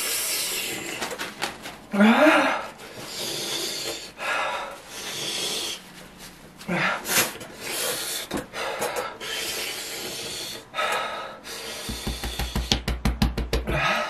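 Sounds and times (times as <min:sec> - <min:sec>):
person panting and hissing: 0:00.0 - 0:01.2, 0:01.9 - 0:12.8.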